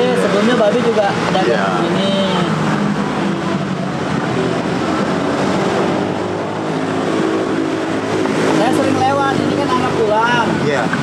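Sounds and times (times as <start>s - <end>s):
street traffic passing: 0.0s - 11.0s.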